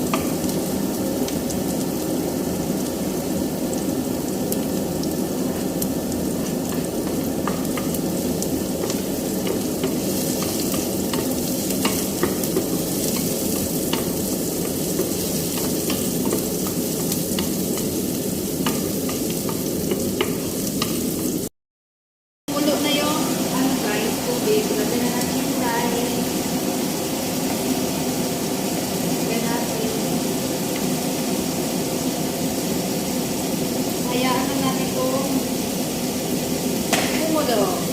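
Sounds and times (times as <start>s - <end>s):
chicken sizzling in oil: 0.0s - 21.5s, 22.5s - 37.9s.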